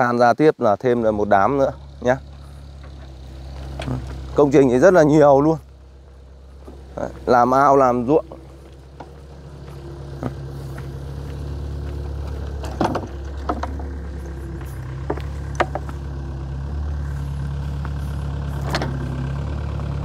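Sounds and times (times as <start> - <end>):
excavator diesel engine running: 0.6 - 20.0.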